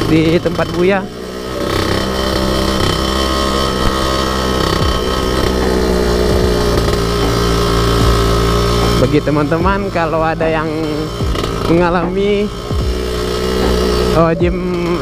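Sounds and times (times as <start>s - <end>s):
two-stroke scooter engine running: 0.0s - 15.0s.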